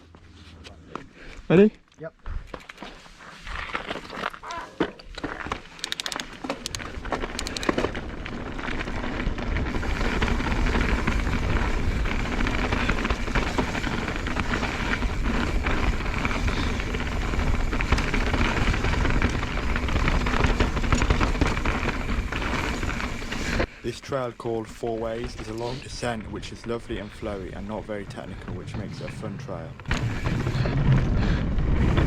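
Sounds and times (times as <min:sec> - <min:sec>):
bike tyre and trail noise: 0:00.0 - 0:32.0
bike clicks and rattles: 0:02.3 - 0:23.7, 0:25.0 - 0:32.0.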